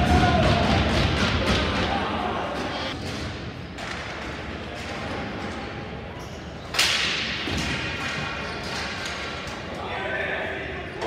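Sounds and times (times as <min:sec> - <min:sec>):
indoor hockey play noise: 0:00.0 - 0:11.0.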